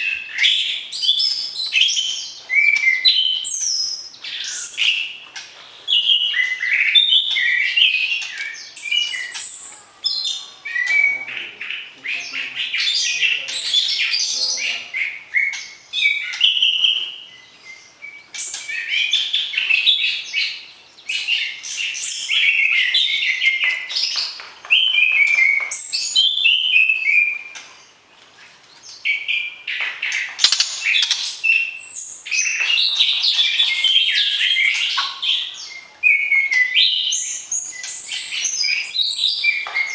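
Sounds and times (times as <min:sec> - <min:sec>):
bird singing whistled phrases: 0:00.0 - 0:05.2, 0:05.9 - 0:27.6, 0:30.4 - 0:39.9.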